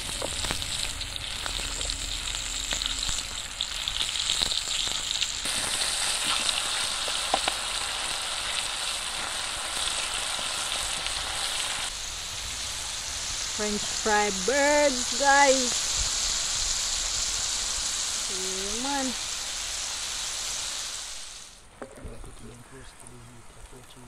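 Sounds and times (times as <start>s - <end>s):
food deep-frying in oil: 0.0s - 21.6s.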